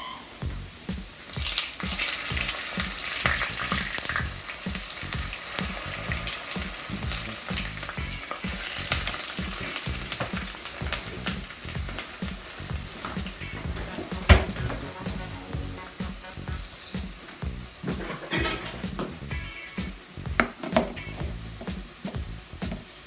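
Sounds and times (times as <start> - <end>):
potatoes sizzling in oil: 0.1 - 23.0.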